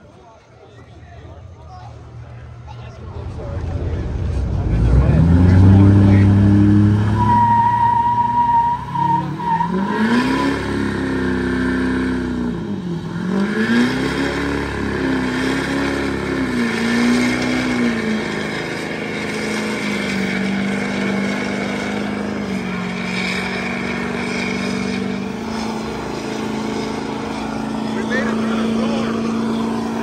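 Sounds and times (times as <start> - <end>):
truck engine revving: 1.1 - 30.0.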